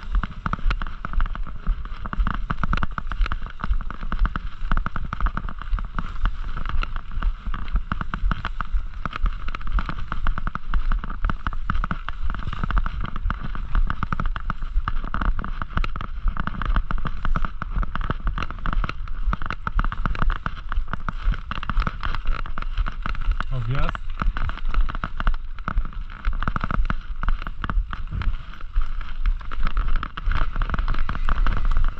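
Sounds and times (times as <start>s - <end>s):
bike rattling over rough trail: 0.0s - 31.9s.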